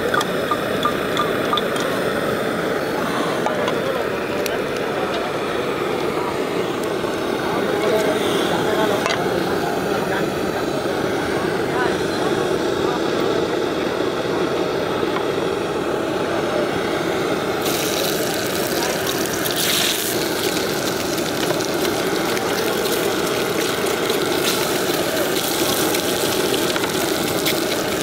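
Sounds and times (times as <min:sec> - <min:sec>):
street stall background roar: 0:00.0 - 0:28.0.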